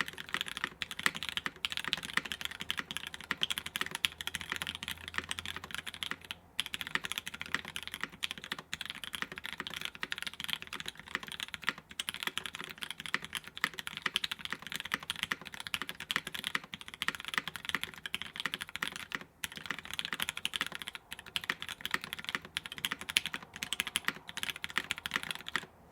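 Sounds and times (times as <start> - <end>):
fast mechanical keyboard typing: 0.0 - 25.7.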